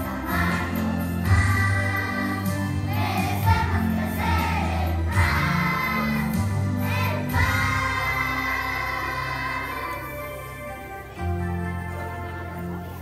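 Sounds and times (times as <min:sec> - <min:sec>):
children's choir singing: 0:00.0 - 0:11.3
instrumental accompaniment: 0:00.0 - 0:13.0.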